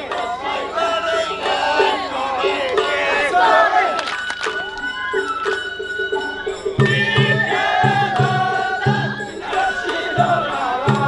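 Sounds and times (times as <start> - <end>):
bamboo flute melody: 0.0 - 11.0
drum beating steadily: 0.0 - 11.0.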